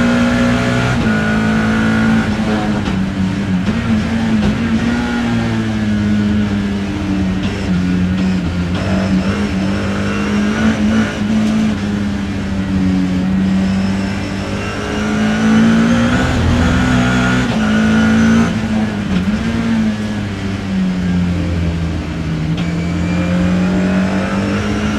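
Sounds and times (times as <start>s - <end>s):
race car engine running hard: 0.0s - 24.9s.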